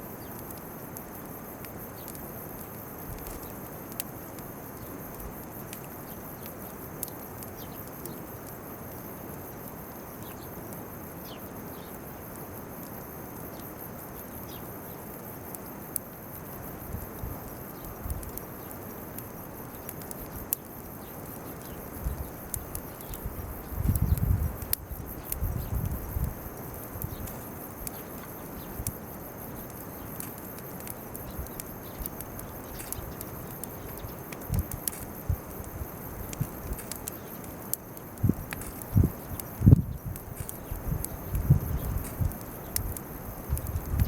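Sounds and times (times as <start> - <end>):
bonfire crackling: 0.0 - 44.0.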